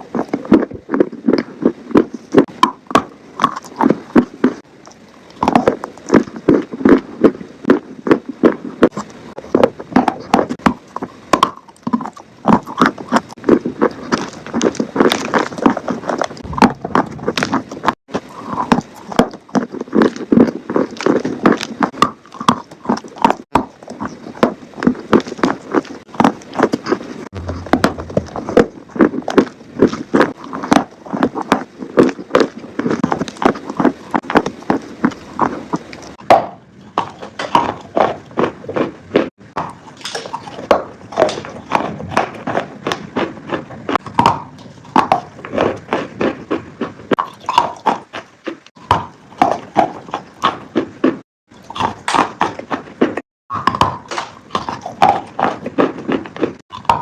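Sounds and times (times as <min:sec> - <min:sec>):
piglet crunching food: 0:00.0 - 0:57.0.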